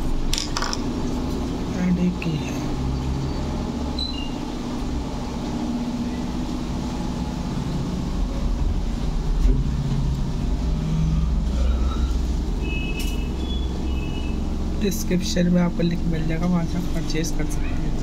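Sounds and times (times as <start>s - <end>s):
engine droning rumble: 0.0s - 18.0s.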